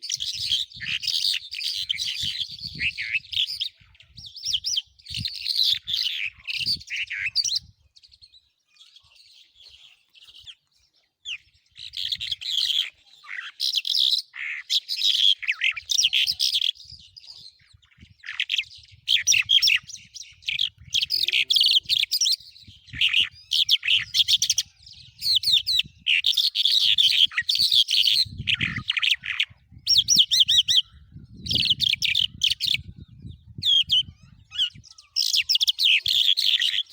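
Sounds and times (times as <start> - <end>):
songbirds twittering: 0.0 - 36.9.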